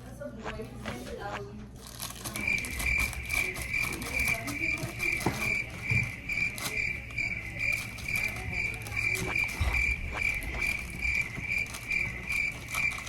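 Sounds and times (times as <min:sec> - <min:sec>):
high-pitched chirp: 0:02.4 - 0:13.0.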